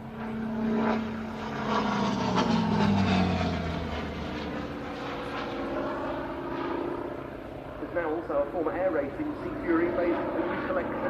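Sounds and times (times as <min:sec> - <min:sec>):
propeller plane passing overhead: 0:00.0 - 0:11.0.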